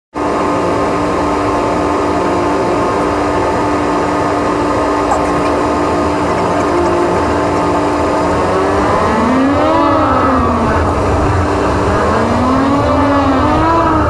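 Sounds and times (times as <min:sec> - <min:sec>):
engine hum: 0:00.2 - 0:14.0.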